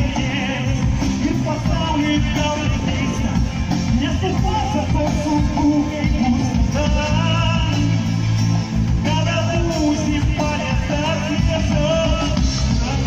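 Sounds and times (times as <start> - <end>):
guitar: 0.0 - 13.0
person singing: 0.0 - 13.0
steady bass: 0.0 - 13.0.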